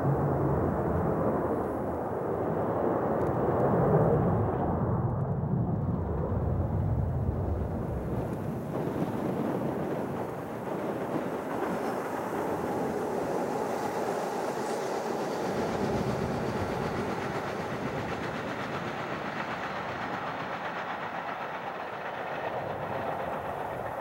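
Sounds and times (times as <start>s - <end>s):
distant jet engines at takeoff: 0.0s - 24.0s.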